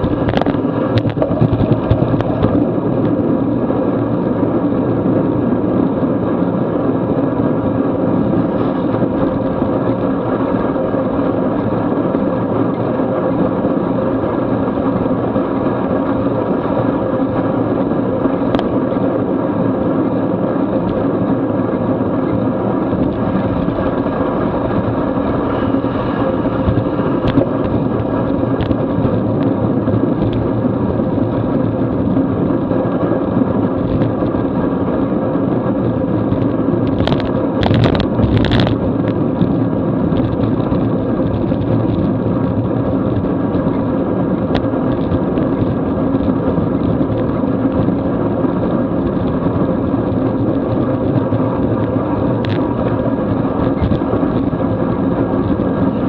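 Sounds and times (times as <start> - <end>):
tyre noise on wet pavement: 0.0 - 56.0
wind rushing on microphone: 0.0 - 56.0.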